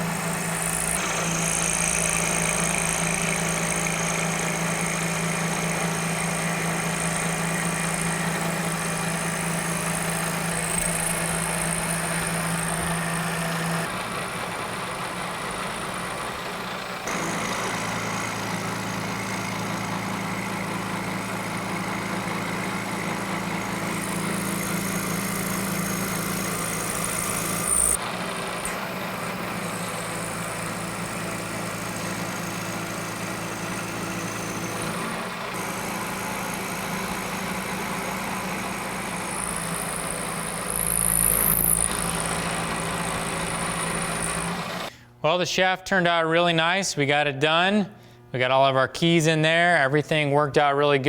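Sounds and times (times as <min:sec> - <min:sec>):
milling machine motor hum: 0:00.0 - 0:44.9.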